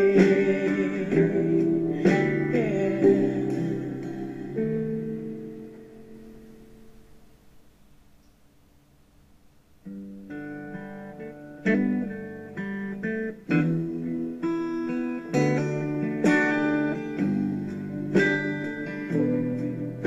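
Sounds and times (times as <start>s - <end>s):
acoustic guitar strumming chords: 0.0s - 7.3s, 9.8s - 20.0s
faint song: 0.0s - 20.0s.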